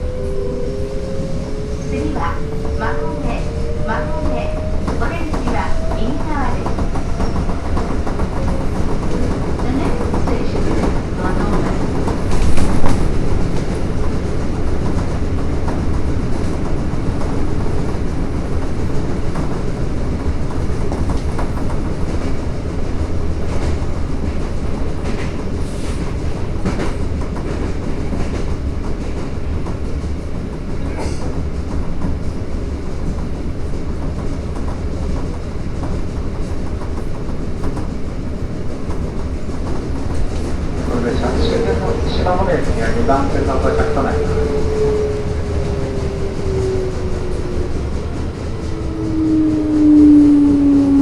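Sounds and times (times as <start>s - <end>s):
subway train wheels and motors rumbling: 0.0s - 51.0s.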